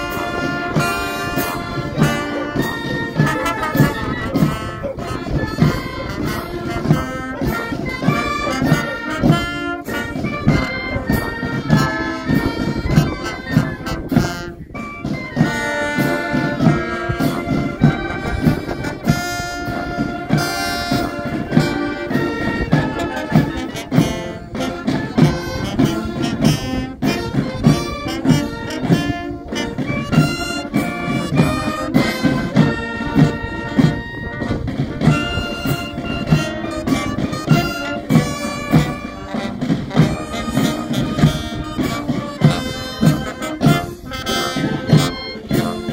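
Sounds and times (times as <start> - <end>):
brass instruments: 0.0 - 45.9
snare and bass drums: 0.0 - 45.9.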